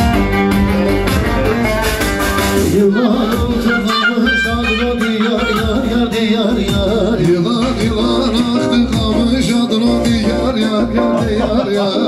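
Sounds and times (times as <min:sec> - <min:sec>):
amplified folk dance music: 0:00.0 - 0:12.0
person singing: 0:01.4 - 0:12.0.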